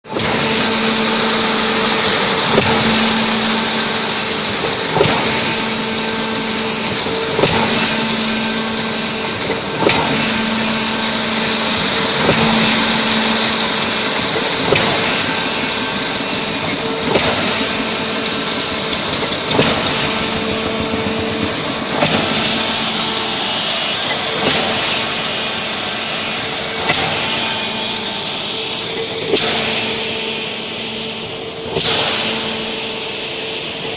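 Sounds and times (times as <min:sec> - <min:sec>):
concrete pump engine drone: 0:00.0 - 0:33.9.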